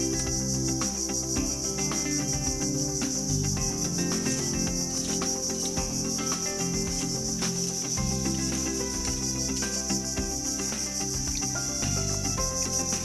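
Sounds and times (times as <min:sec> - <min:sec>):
high-pitched insect chorus: 0:00.0 - 0:13.0
instrumental music: 0:00.0 - 0:13.0.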